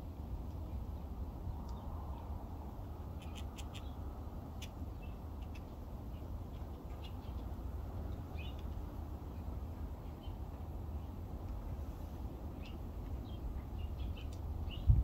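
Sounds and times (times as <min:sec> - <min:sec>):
low outdoor rumble: 0:00.0 - 0:15.0
small birds chirping: 0:00.5 - 0:02.4, 0:03.1 - 0:11.2, 0:12.5 - 0:15.0.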